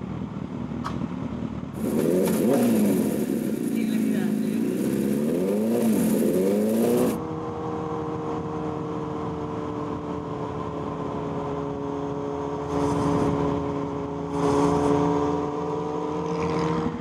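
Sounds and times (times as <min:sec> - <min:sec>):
motorcycle engine cruising: 0:01.5 - 0:17.0
motorcycle engine revving: 0:01.8 - 0:09.7, 0:11.3 - 0:17.0.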